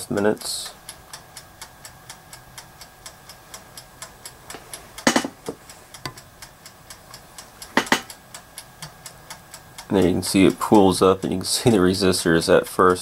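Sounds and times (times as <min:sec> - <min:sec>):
clockwork timer ticking: 0:00.0 - 0:13.0.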